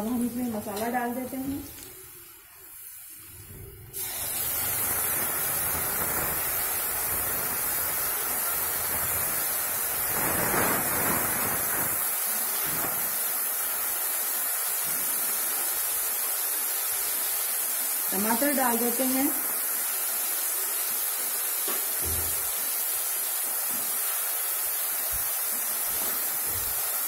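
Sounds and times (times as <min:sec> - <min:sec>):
paste sizzling in hot oil: 0:00.0 - 0:27.0.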